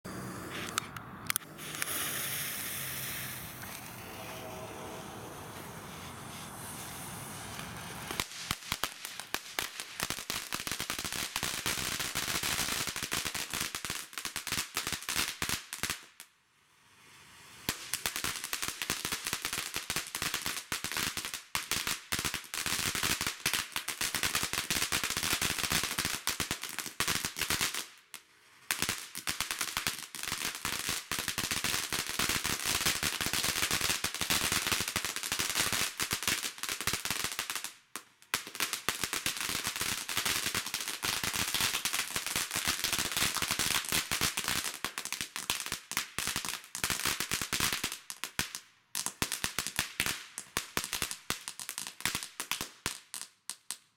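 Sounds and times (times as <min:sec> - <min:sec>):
firework crackling: 0:00.1 - 0:16.2, 0:17.0 - 0:53.1.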